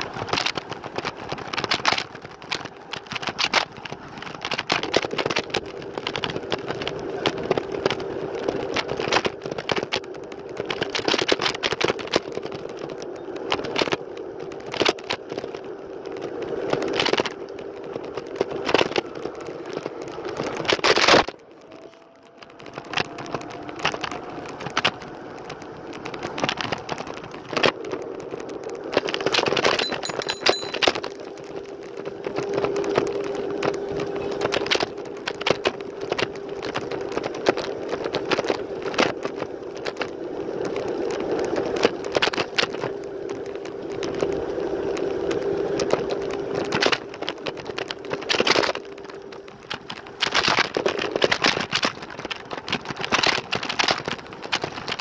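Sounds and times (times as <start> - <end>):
scooter rattling over street: 0.0 - 55.0.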